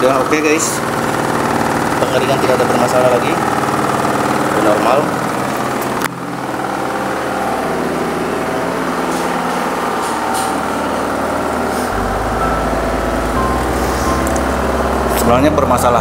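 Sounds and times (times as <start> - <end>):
spin-dryer motor humming: 0.0 - 16.0.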